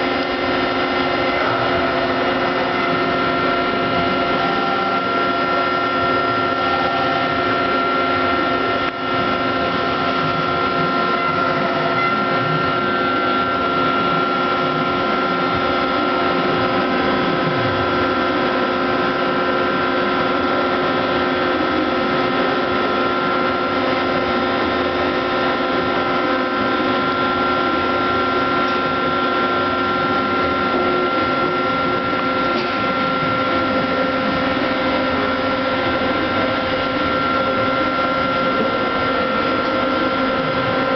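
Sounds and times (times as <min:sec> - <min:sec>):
lathe whining: 0:00.0 - 0:40.9.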